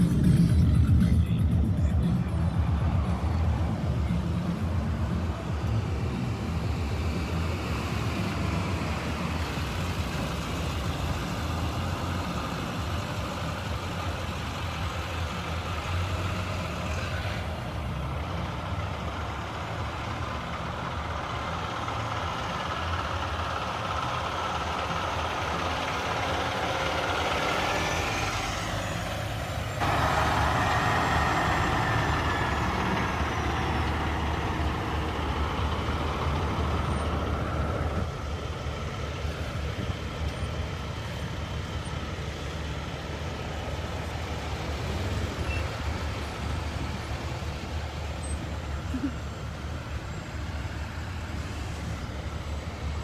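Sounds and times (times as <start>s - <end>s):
vehicle engines running: 0.0s - 53.0s.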